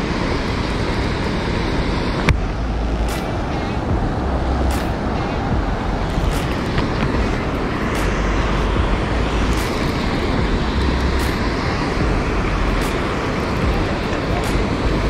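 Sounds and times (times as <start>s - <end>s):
water roaring through spillway: 0.0s - 15.0s
wind buffeting microphone: 0.0s - 15.0s.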